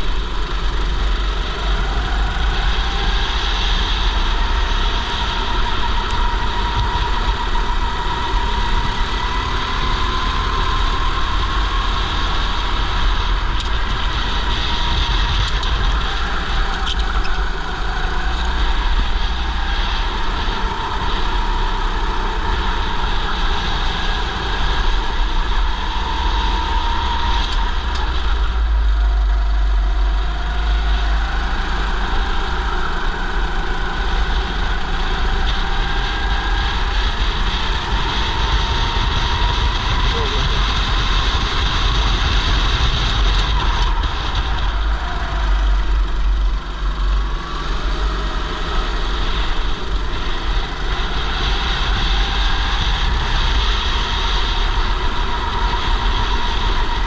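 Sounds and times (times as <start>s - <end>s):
go-kart engine racing: 0.0s - 57.0s
heavy low rumble: 0.0s - 57.0s.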